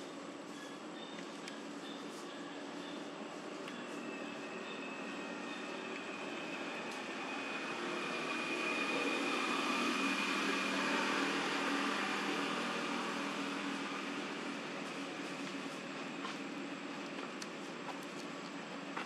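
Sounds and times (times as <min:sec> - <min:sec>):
mechanical drone with whine: 0:00.0 - 0:19.0.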